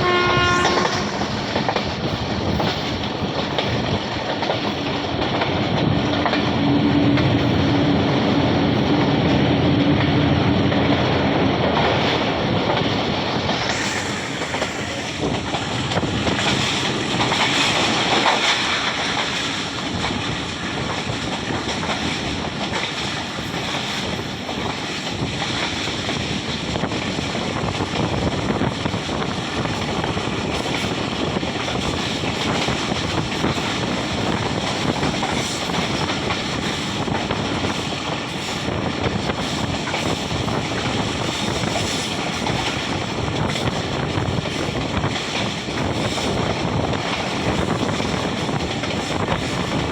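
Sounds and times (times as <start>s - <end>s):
moving train rushing noise: 0.0s - 49.9s
wind on microphone: 0.0s - 49.9s.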